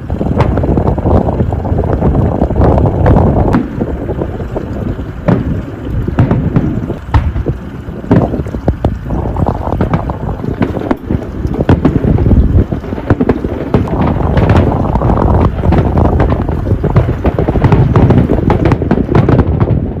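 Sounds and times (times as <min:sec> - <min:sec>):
rumble thumps: 0:00.0 - 0:20.0
wind buffeting microphone: 0:00.0 - 0:20.0.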